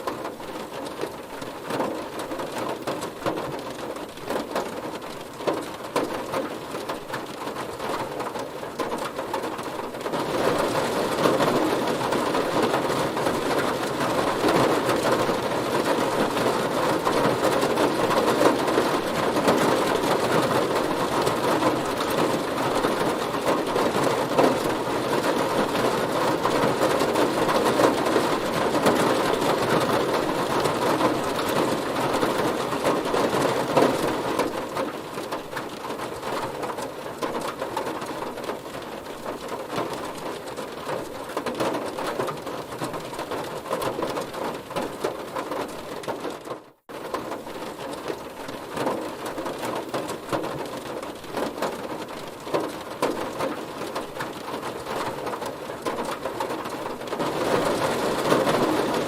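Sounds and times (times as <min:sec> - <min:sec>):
heavy rain drumming on a car: 0:00.0 - 0:59.0.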